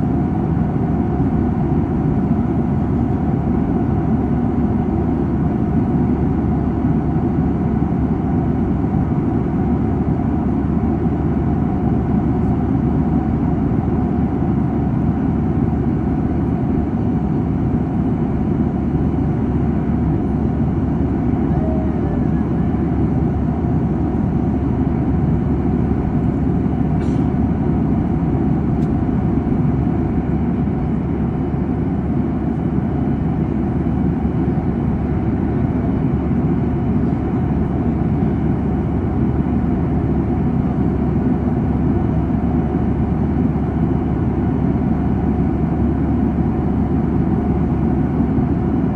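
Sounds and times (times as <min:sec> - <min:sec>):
jet cabin engine drone: 0:00.0 - 0:48.9.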